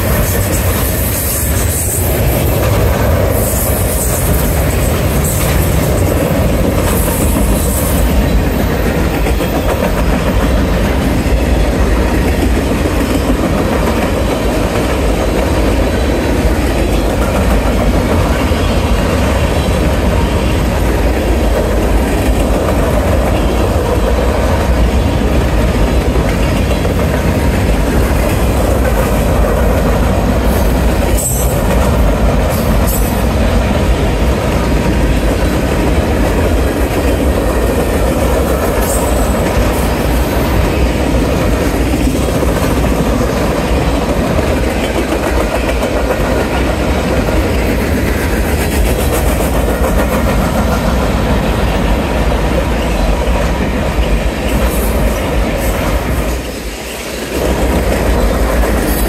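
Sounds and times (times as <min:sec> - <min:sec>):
steel wheels rumbling on rail: 0:00.0 - 0:59.0.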